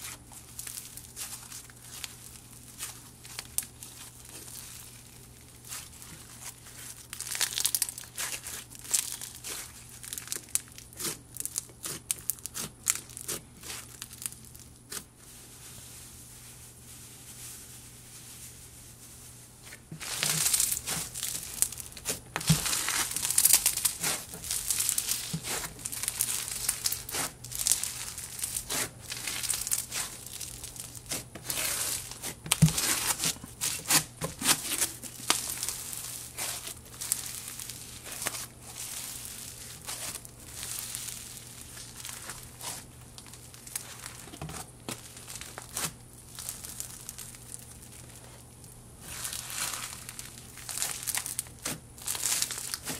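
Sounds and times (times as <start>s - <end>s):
foam bead slime crunching: 0.0s - 52.9s.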